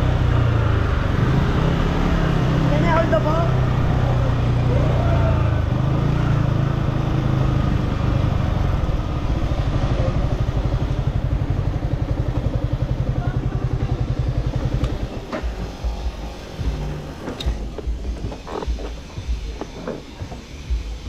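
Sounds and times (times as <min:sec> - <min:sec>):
motorcycle engine idling: 0:02.4 - 0:21.0.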